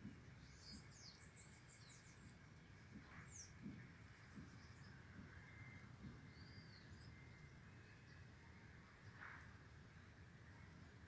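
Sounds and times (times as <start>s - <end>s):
low background noise: 0.0s - 11.0s
finches chirping: 0.1s - 11.0s.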